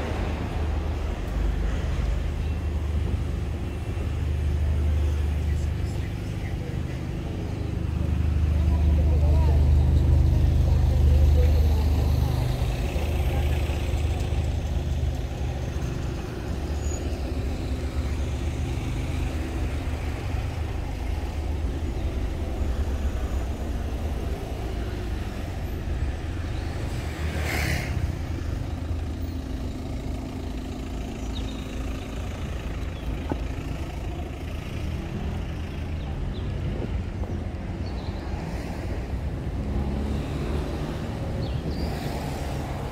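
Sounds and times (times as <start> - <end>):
cars idling in traffic: 0.0 - 42.9.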